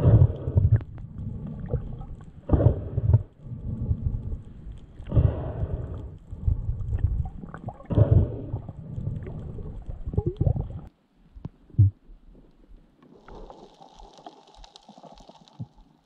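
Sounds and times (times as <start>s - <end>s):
underwater surges and gurgling: 0.0s - 16.0s.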